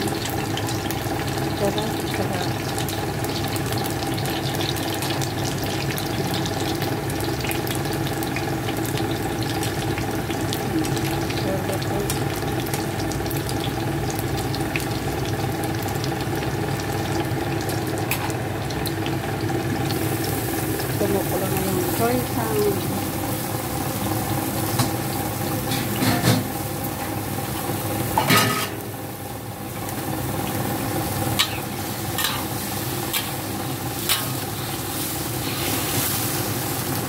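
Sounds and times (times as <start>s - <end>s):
constant low hum: 0.0s - 37.0s
eggplant sizzling in hot oil: 0.0s - 37.0s.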